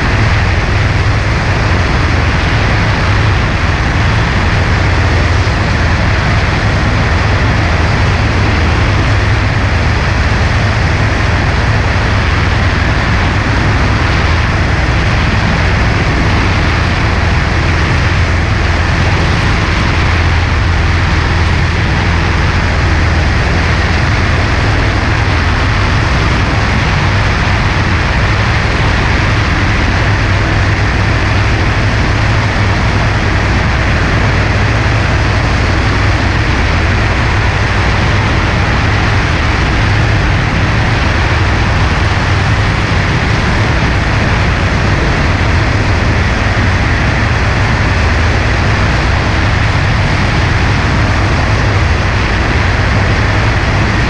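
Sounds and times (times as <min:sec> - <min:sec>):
propeller plane engine droning: 0:00.0 - 0:54.0
rushing air: 0:00.0 - 0:54.0.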